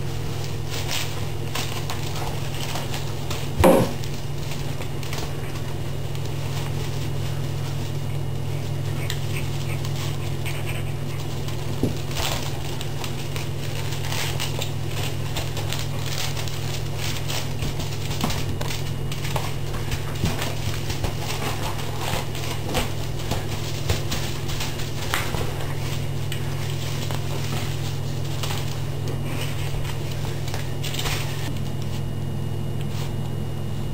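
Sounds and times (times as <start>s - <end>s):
claws and bristles scratching on tiles: 0.0s - 32.1s
steady low hum: 0.0s - 33.9s.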